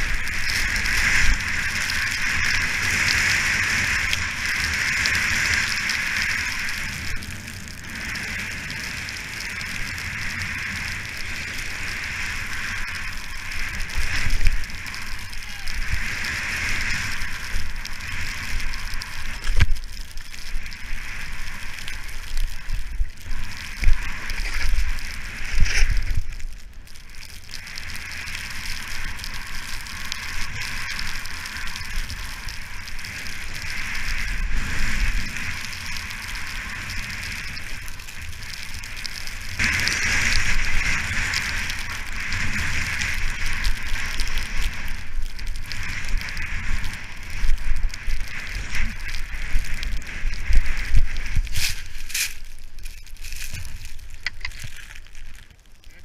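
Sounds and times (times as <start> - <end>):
skis hissing over snow: 0.0 - 56.0
wind rumble on microphone: 0.0 - 56.0.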